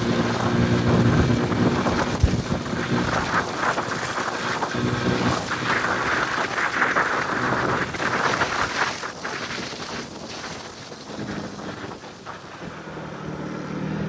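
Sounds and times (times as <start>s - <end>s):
road noise: 0.0s - 9.0s, 11.1s - 14.0s
motorcycle engine hum: 0.0s - 14.0s
wind over microphone: 0.0s - 14.0s.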